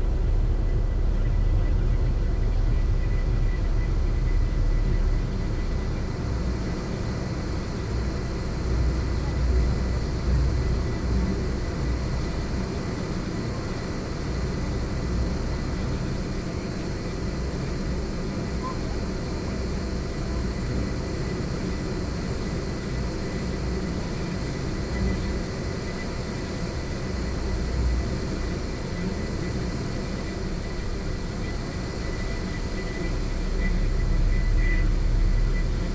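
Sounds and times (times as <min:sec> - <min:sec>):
faint high whine: 0:00.0 - 0:35.9
ferry engine rumble: 0:00.0 - 0:35.9.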